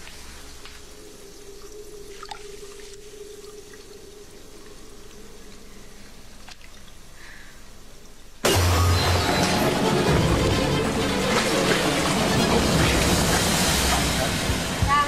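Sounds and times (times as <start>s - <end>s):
water dripping: 0.0s - 8.4s, 9.4s - 15.0s
faint steady hiss: 0.0s - 15.0s.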